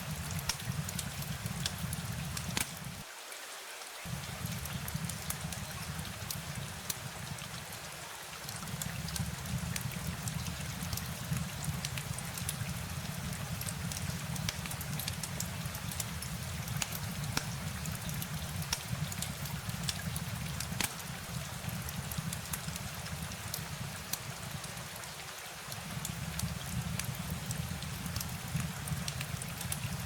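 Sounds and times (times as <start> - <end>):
raindrops ticking on surface: 0.0 - 3.0, 4.1 - 30.0
steady rain rush: 0.0 - 3.1, 4.1 - 30.0.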